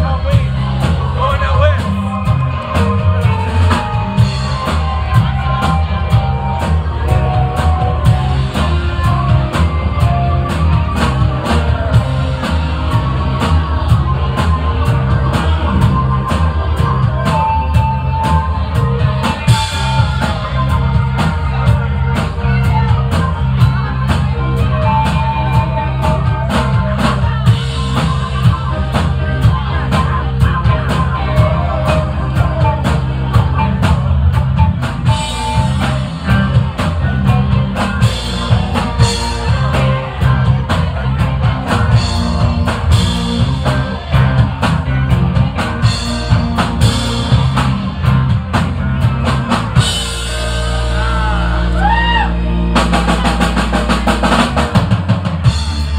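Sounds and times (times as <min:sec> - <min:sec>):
bass guitar: 0:00.0 - 0:55.9
drum kit beat: 0:00.0 - 0:55.9
electric guitars: 0:00.0 - 0:55.9.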